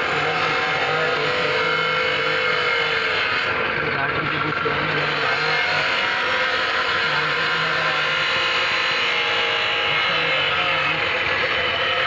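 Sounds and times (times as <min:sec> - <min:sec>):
engine running: 0:00.0 - 0:12.0
indistinct voices: 0:00.0 - 0:12.0.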